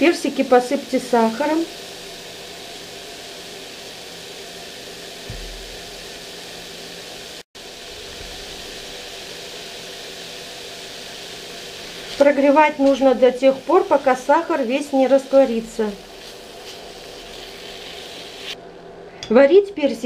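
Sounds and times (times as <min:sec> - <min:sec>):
fruit sizzling in frying pan: 0:00.0 - 0:19.1.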